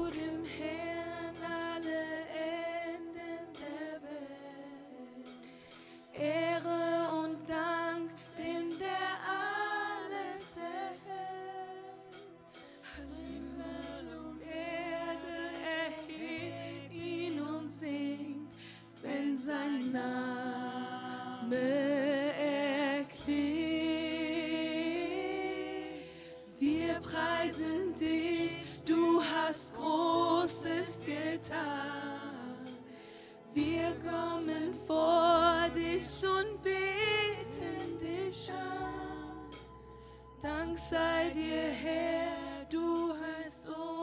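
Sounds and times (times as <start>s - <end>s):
voices singing with vibrato: 0.0s - 39.8s, 40.4s - 44.0s.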